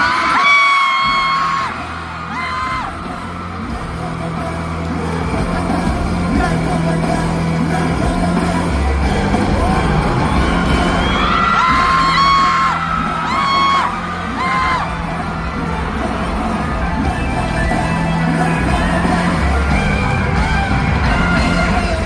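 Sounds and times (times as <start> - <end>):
fans screaming: 0.0 - 22.0
live band playing dance song: 0.0 - 22.0.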